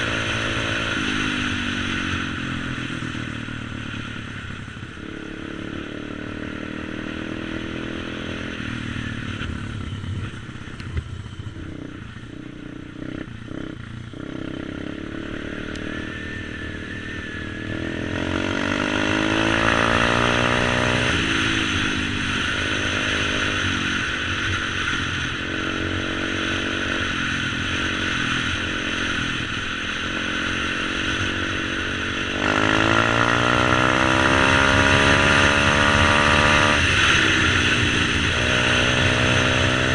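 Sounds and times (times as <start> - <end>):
motorbike engine accelerating: 0.0 - 39.9.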